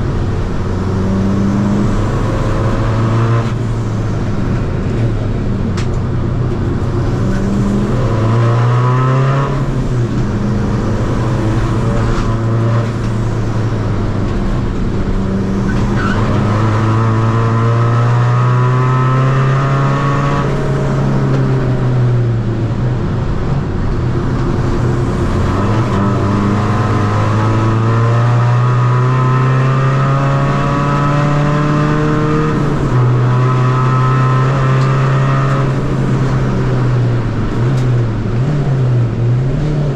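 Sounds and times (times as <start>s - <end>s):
diesel car engine revving: 0.0s - 39.9s.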